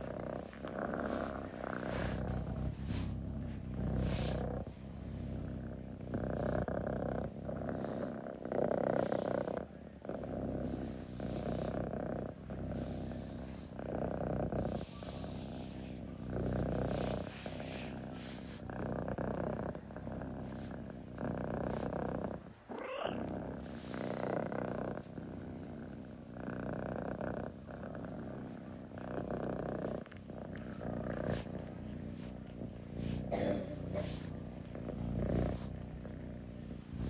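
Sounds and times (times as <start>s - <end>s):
cat purring: 0.0s - 37.0s.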